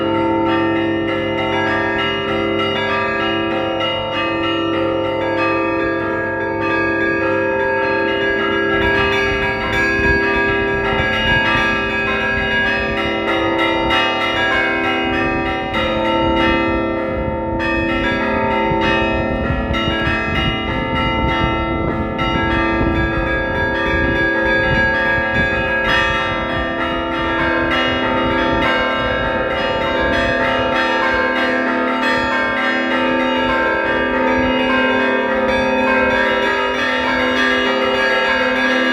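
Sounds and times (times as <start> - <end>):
large bells ringing: 0.0 - 38.9.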